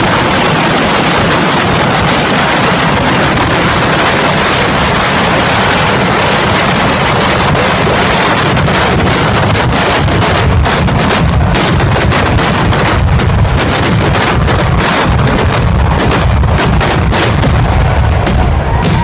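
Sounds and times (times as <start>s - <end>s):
fireworks blasts: 0.0s - 19.0s.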